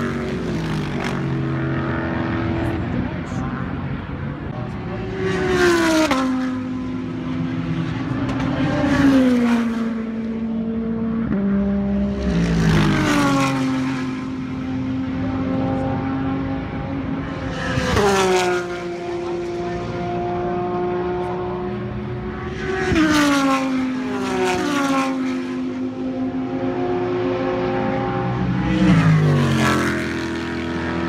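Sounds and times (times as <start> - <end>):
race cars passing: 0.0 - 31.0.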